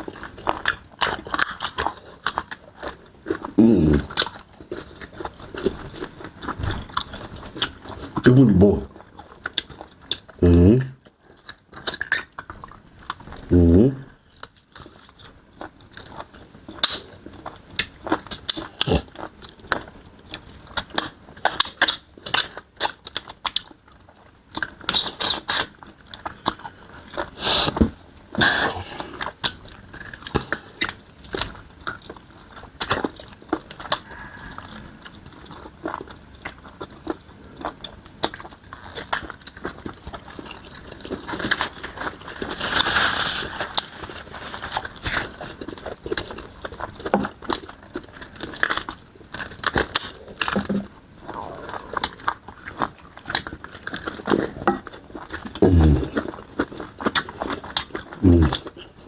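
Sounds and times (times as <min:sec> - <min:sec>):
chewing and crunching bones: 0:00.0 - 0:59.0.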